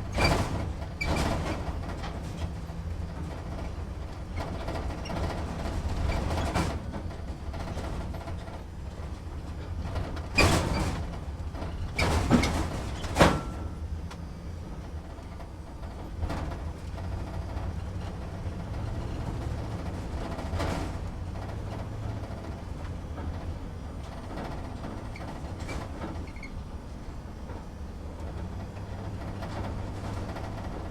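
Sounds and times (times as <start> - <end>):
truck engine and road rumble: 0.0 - 30.9.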